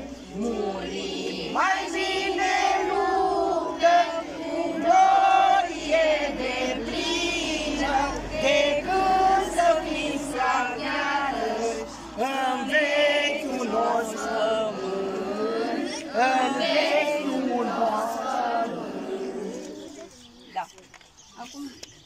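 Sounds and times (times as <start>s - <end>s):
children and women singing: 0.0s - 20.1s.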